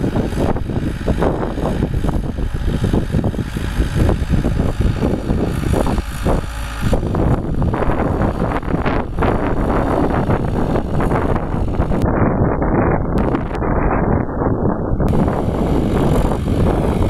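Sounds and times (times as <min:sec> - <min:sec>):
tractor diesel engine under load: 0:00.0 - 0:12.2, 0:13.2 - 0:13.8, 0:15.1 - 0:17.0.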